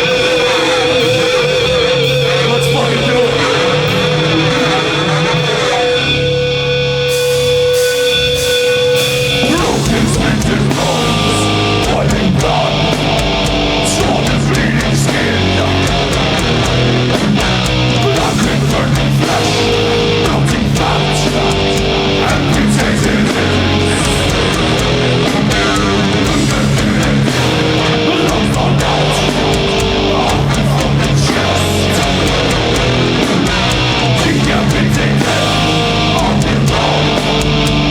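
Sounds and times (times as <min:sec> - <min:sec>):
heavy metal band playing: 0:00.0 - 0:37.9.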